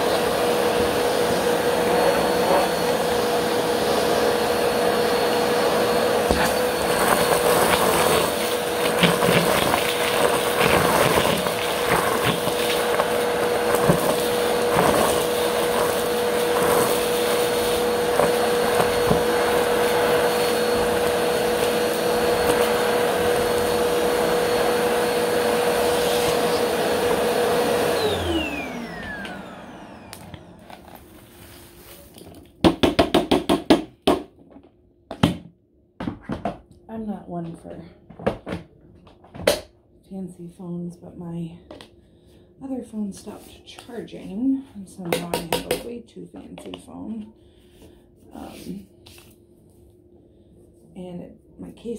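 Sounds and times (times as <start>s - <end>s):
vacuum cleaner running: 0.0s - 35.5s, 36.3s - 51.9s.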